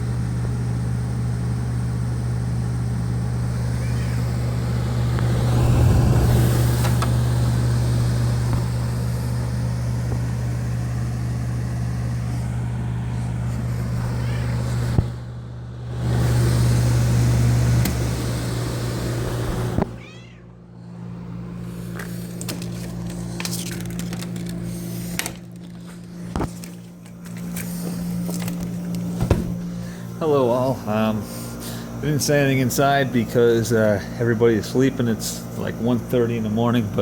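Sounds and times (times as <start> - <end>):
air conditioner humming: 0.0 - 37.0
fan air rushing: 0.0 - 37.0.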